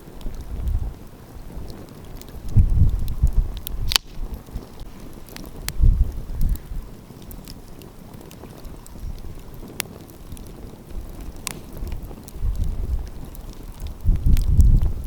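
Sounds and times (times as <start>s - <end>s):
fire popping: 0.0s - 15.0s
wind rumbling on microphone: 0.0s - 15.0s
wood fire crackling: 0.0s - 15.0s.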